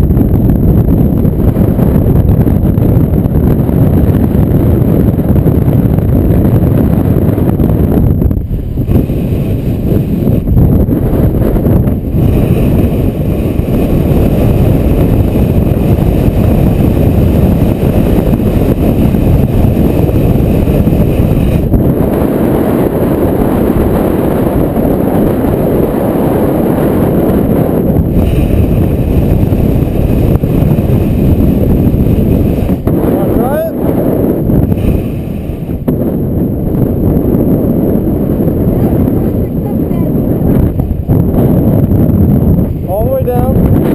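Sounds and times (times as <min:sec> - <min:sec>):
strong wind buffeting microphone: 0:00.0 - 0:43.9.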